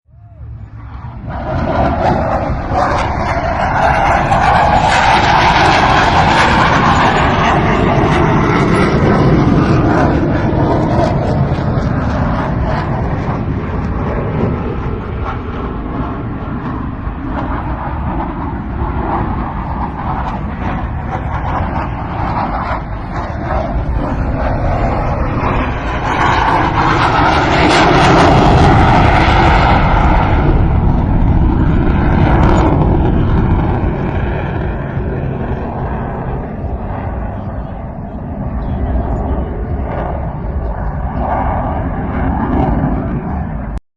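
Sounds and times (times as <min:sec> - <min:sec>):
fighter jet engine noise: 0:00.1 - 0:43.8.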